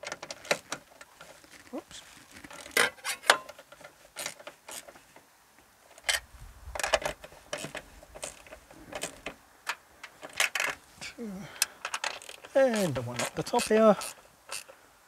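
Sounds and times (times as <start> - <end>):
wrench metallic clicks and rattles: 0.0 - 1.7, 2.3 - 5.2, 5.9 - 10.8, 11.5 - 14.8.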